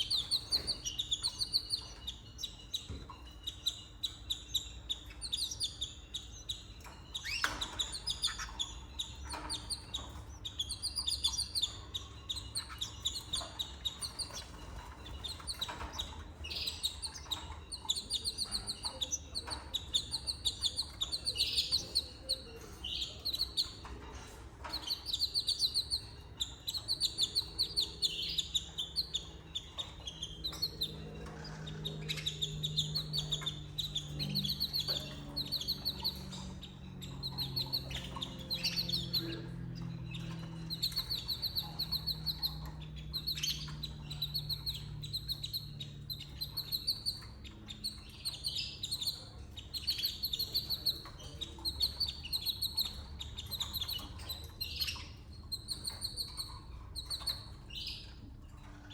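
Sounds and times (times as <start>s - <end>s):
canaries chirping: 0.0s - 58.9s.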